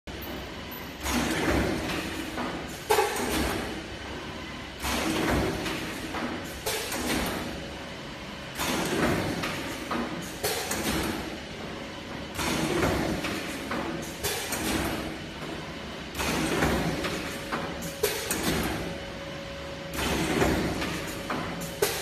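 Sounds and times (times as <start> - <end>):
machine running with sharp clacks: 0.1 - 22.0.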